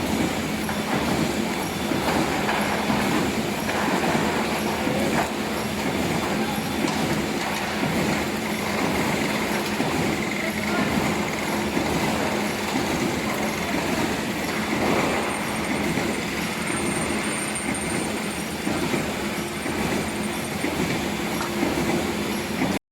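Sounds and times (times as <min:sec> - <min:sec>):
welding machine clattering: 0:00.1 - 0:22.8.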